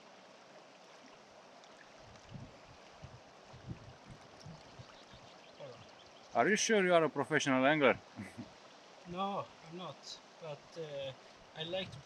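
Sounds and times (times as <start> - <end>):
flowing river rush: 0.0 - 12.0.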